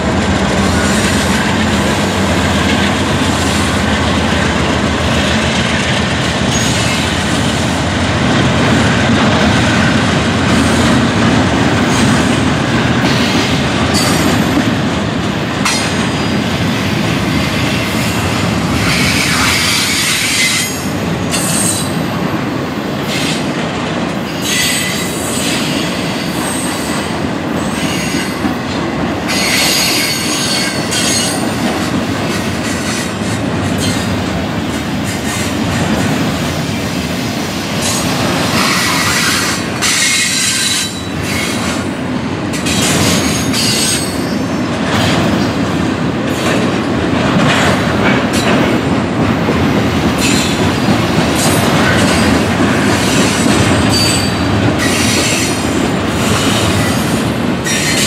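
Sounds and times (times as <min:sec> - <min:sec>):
diesel locomotive engines rumbling: 0:00.0 - 0:58.0
train wheels on rails: 0:00.0 - 0:58.0.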